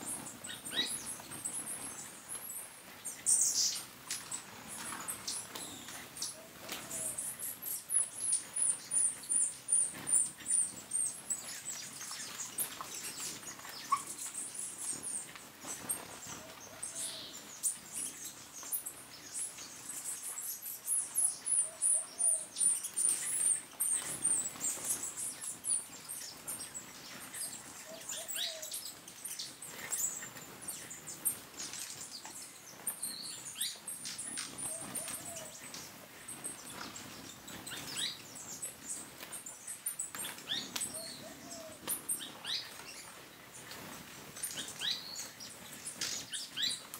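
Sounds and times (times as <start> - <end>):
hummingbirds twittering: 0.0 - 15.2, 16.5 - 43.0.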